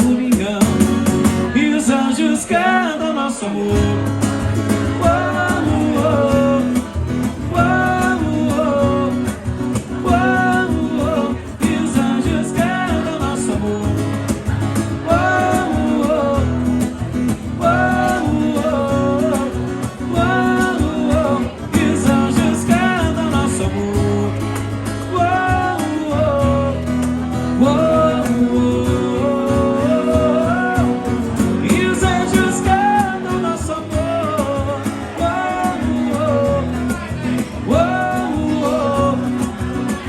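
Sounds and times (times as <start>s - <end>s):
acoustic guitar accompaniment: 0.0s - 40.0s
wordless vocal melody: 1.5s - 40.0s.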